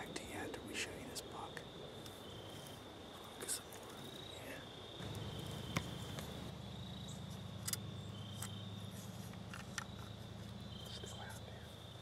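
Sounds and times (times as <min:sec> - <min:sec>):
crickets trilling: 0:00.0 - 0:12.0
low steady hum: 0:00.0 - 0:12.0.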